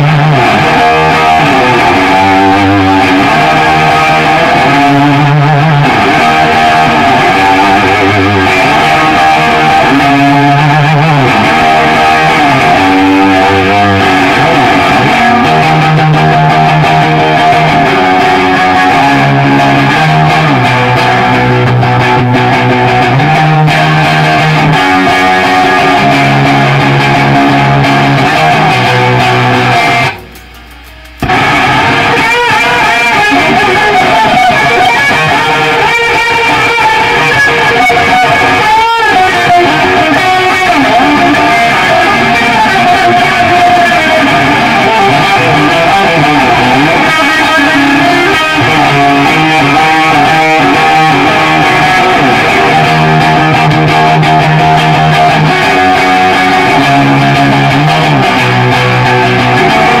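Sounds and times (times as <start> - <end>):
electric guitar hard rock riffing: 0.0 - 60.0.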